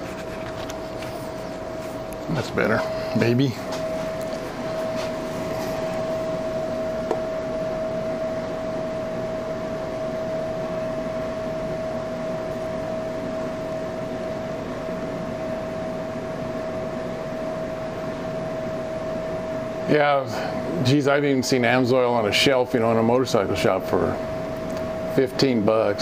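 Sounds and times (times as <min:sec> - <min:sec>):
machine hum with whine: 0:00.0 - 0:26.0.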